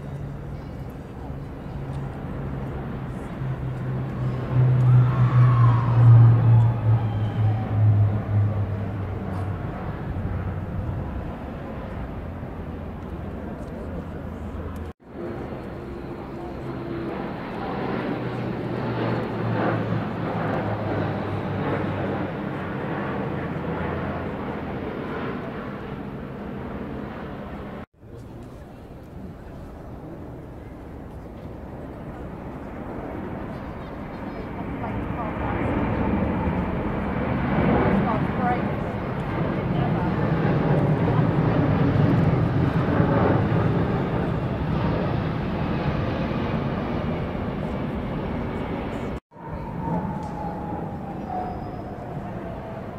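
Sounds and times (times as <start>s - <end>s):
aircraft engine drone overhead: 0.0s - 52.9s.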